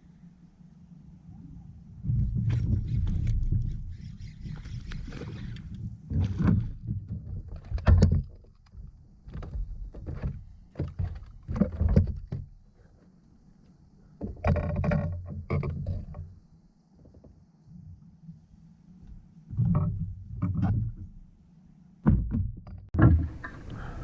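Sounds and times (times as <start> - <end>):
knocks and bumps in a kayak: 2.0 - 13.1, 14.1 - 18.1, 19.1 - 21.4, 22.0 - 24.0.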